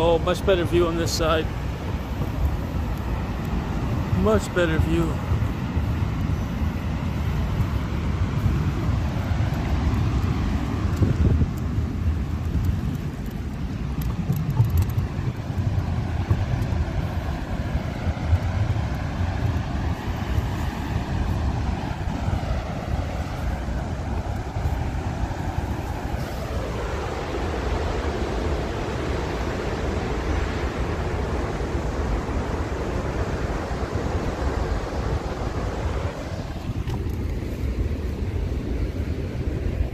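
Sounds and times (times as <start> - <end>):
waterfall roar: 0.0 - 39.9
wind rumble on microphone: 0.0 - 39.9.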